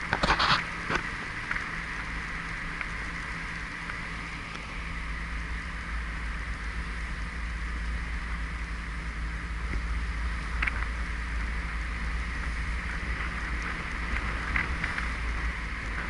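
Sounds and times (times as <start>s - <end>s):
car engine and tyre rumble: 0.0s - 16.0s
steady hiss: 0.0s - 16.0s.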